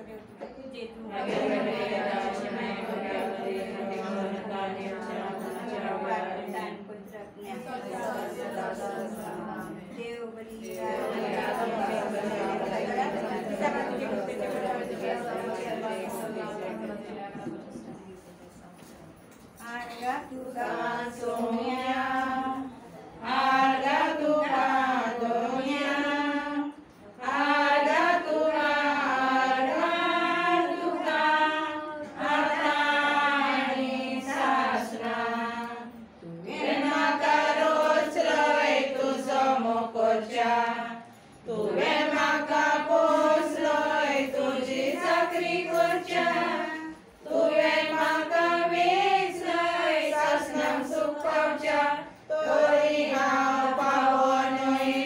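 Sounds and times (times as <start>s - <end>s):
women singing a hymn unaccompanied: 0.8s - 17.9s, 19.5s - 55.0s.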